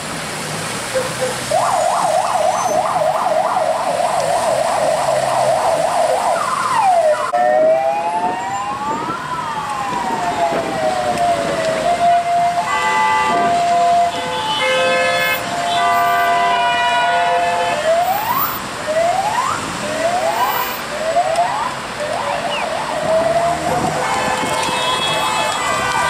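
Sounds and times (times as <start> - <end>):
emergency siren: 0.9 - 26.0.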